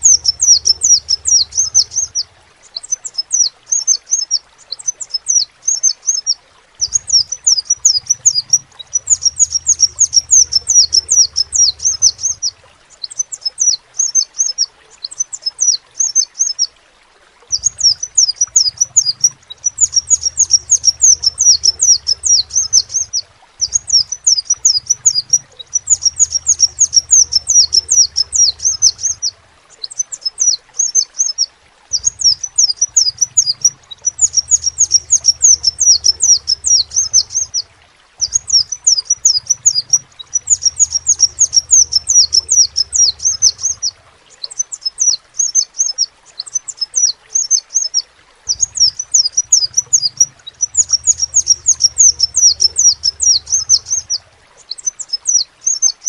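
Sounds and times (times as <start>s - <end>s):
sunbird singing high chirps: 0.0s - 16.7s, 17.5s - 37.6s, 38.2s - 56.0s.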